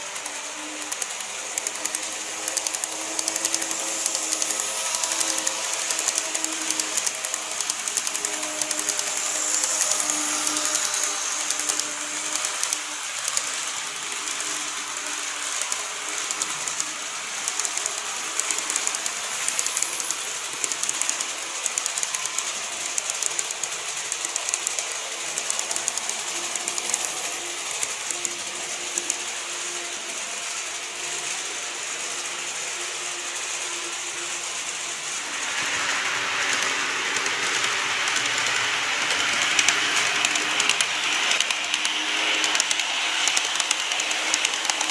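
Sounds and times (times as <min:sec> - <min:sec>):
small wheels clicking over rails: 0:00.0 - 0:44.9.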